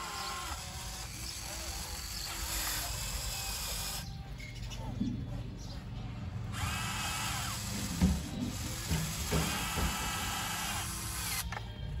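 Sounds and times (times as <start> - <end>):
model excavator motors whining: 0.0 - 5.0, 6.5 - 12.0.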